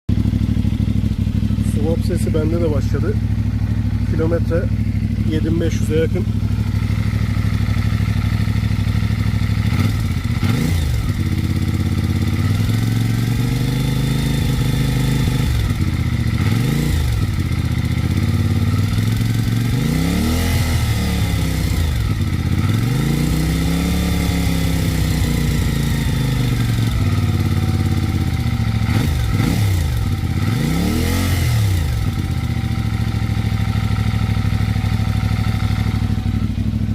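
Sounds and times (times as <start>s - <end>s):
motorcycle engine idling and revving: 0.0s - 36.9s
engine ticking: 0.1s - 36.9s.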